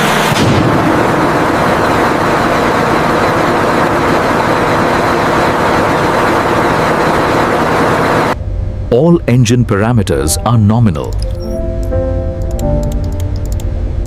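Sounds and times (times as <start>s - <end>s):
low hum: 0.0s - 14.0s
ship engine running: 0.0s - 14.0s.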